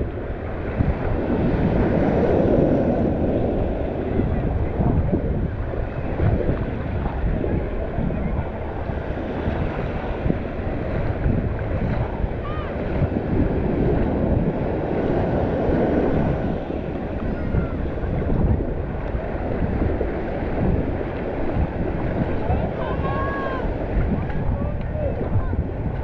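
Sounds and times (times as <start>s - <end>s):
shallow surf washing: 0.0s - 26.0s
wind buffeting microphone: 0.0s - 26.0s.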